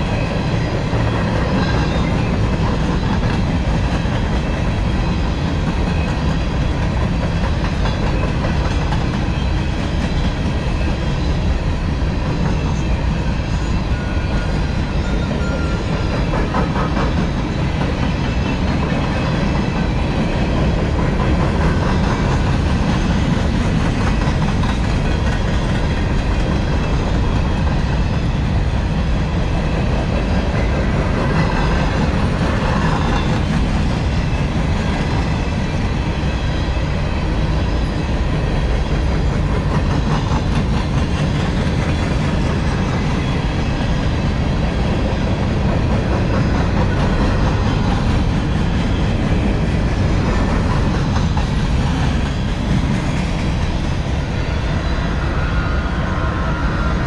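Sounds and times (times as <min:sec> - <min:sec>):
clatter over the track: 0:00.0 - 0:55.3
freight train wheels rumbling: 0:00.0 - 0:57.0.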